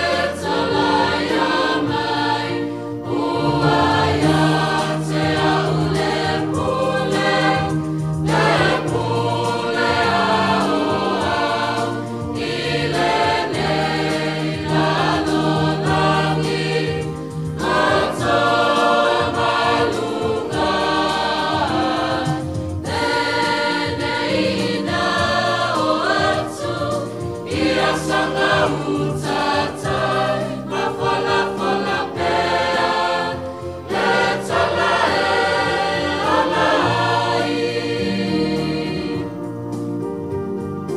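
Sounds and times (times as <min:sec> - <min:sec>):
choir singing a hymn: 0:00.0 - 0:40.9.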